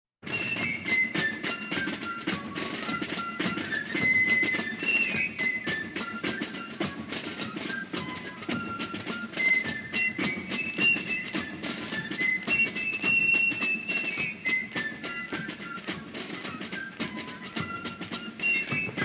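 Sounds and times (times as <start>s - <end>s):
whistle-like melody over clicky beat: 0.2s - 19.0s.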